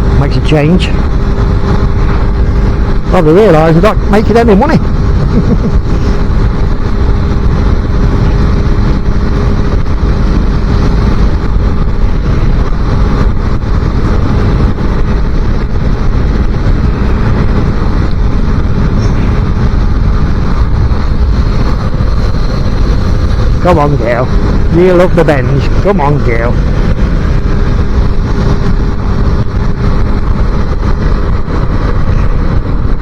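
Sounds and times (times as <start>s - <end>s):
motorcycle running: 0.0s - 33.0s
wind buffeting microphone: 0.0s - 33.0s.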